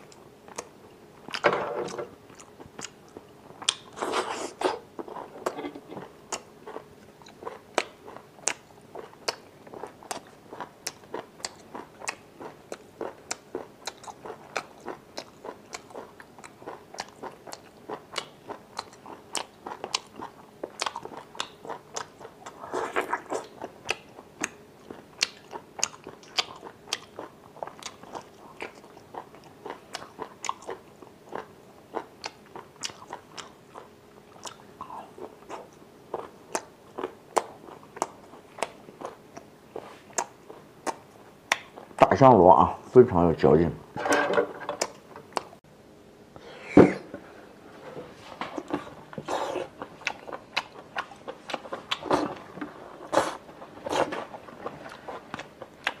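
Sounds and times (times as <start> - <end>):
wet chewing clicks and smacks: 0.1 - 1.4, 2.3 - 4.0, 6.3 - 39.5, 40.1 - 42.1, 48.6 - 56.0.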